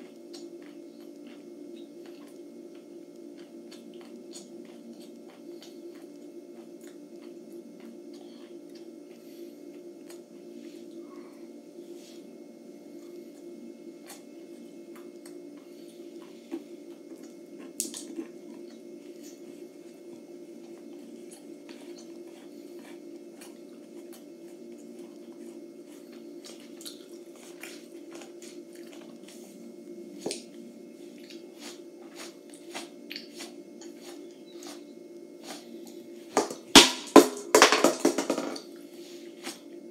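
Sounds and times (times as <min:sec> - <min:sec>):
person chewing: 0:00.0 - 0:11.0, 0:12.9 - 0:36.1
steady low hum: 0:00.0 - 0:39.9.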